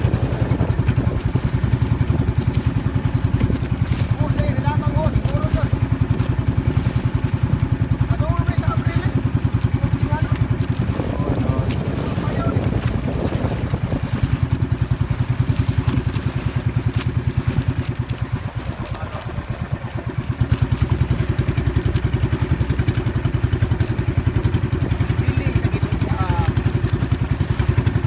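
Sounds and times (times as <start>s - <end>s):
boat engine chugging: 0.0s - 28.0s.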